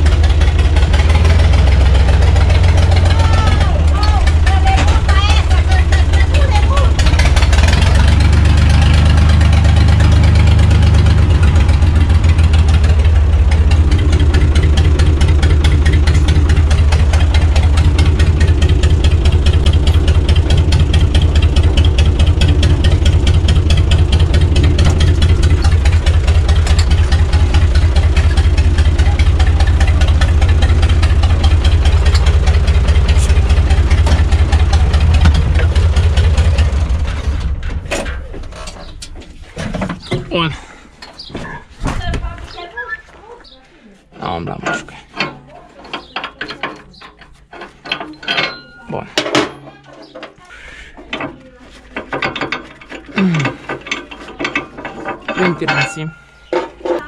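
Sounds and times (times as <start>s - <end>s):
tractor diesel engine rumbling: 0.0s - 57.0s.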